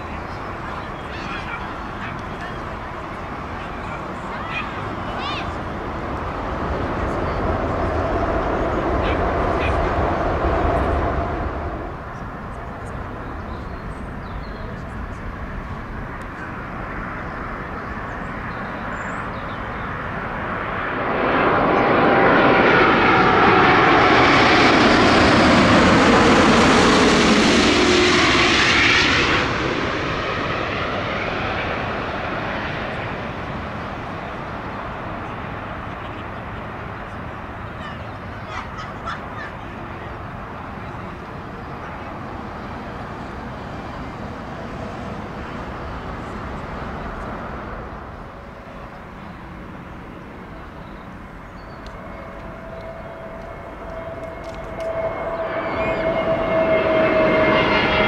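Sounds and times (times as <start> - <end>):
distant jet rumble: 0.0 - 58.0
jet airliner passing overhead: 0.0 - 58.0.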